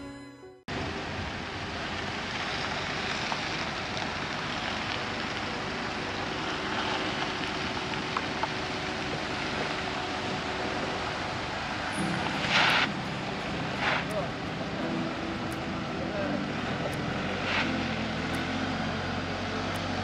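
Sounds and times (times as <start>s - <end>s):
wind and water rushing: 0.7s - 20.0s.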